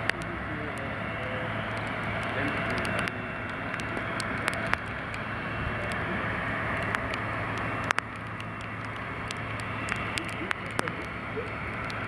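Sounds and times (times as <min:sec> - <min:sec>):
heavy rain hissing: 0:00.0 - 0:12.0
raindrop taps: 0:00.0 - 0:12.0
steady low hum: 0:00.0 - 0:12.0.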